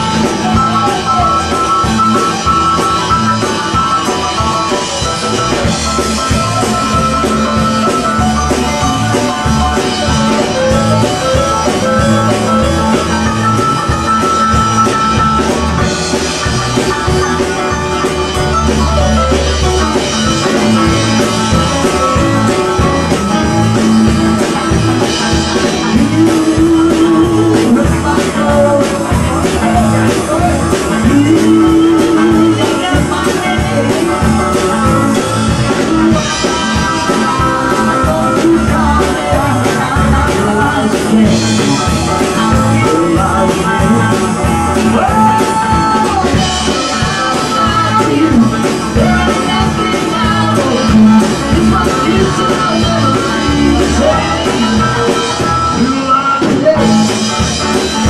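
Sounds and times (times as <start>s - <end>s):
bass: 0.0s - 58.0s
drums: 0.0s - 58.0s
electric guitars: 0.0s - 58.0s
keyboards: 0.0s - 58.0s
person singing: 0.0s - 58.0s.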